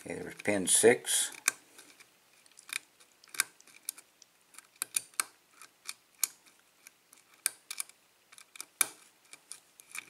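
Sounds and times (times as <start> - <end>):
lock pick clicking pins: 1.3 - 10.0.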